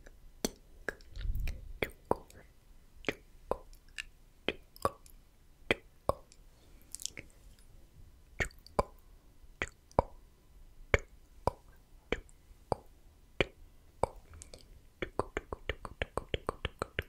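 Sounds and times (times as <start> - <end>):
tongue and lip clicks: 0.0 - 7.4, 8.4 - 9.0, 9.6 - 10.2, 10.9 - 17.0.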